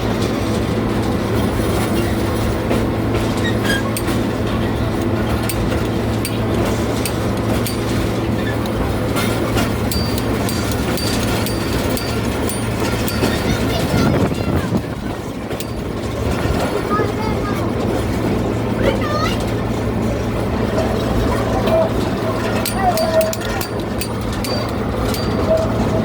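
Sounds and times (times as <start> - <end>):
train engine drone: 0.0 - 26.0
wheels clicking over rail joints: 0.0 - 26.0.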